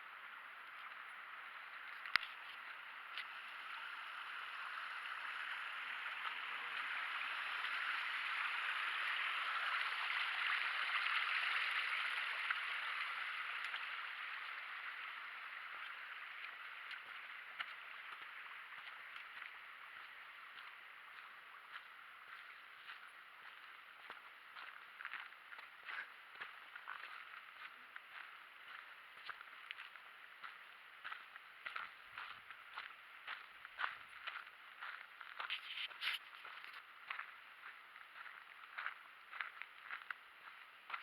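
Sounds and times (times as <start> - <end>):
stream water rushing: 0.0 - 37.9.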